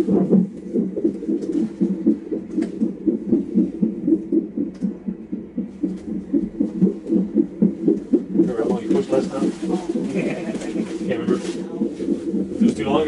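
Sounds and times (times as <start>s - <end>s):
doppler heartbeat whooshing: 0.0s - 13.0s.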